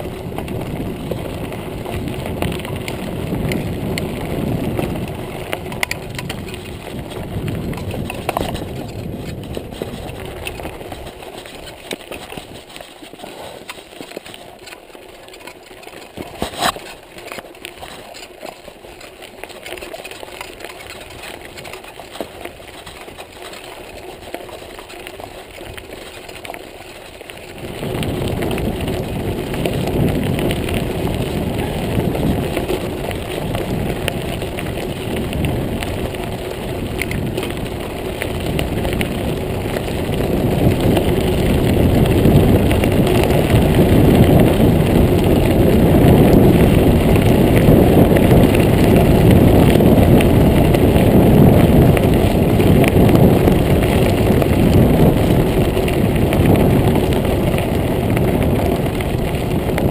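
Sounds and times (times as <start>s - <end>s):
tyres rolling over gravel: 0.0s - 59.9s
wind rumbling on microphone: 0.0s - 59.9s.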